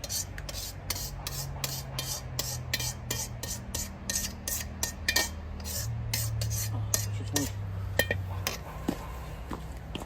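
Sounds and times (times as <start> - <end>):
spatula scraping in a wok: 0.0 - 8.6.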